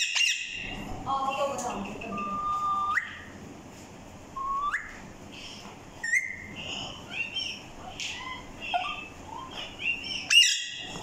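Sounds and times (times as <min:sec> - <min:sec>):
parakeet chirps: 0:00.0 - 0:03.4, 0:04.4 - 0:11.0
parakeets whistling: 0:00.0 - 0:03.4, 0:04.4 - 0:11.0.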